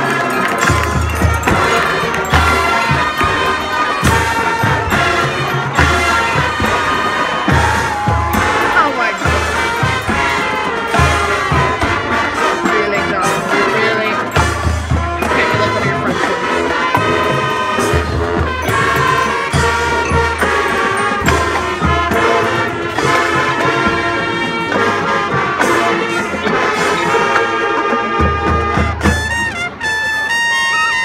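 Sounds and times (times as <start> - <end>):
marching band playing jazz: 0.0 - 31.0.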